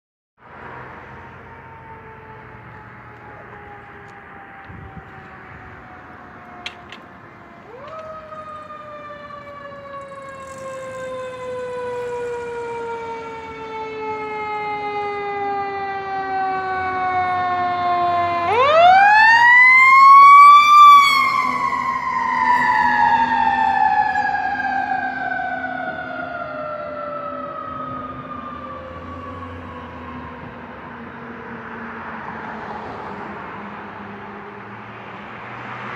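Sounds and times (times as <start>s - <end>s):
mechanical siren wailing: 0.9s - 32.4s.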